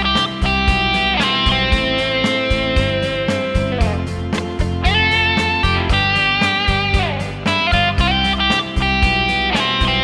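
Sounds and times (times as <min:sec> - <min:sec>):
overdriven electric guitar lead: 0:00.0 - 0:10.0
steady beat: 0:00.1 - 0:09.8.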